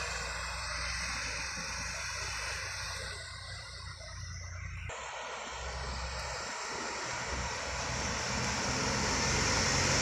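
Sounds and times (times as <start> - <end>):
truck diesel engine pulling uphill: 0.0 - 10.0.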